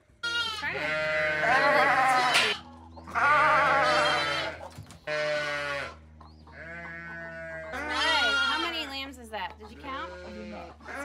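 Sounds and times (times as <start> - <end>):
lamb bleating: 0.2 - 6.0, 6.6 - 8.9, 9.8 - 11.0.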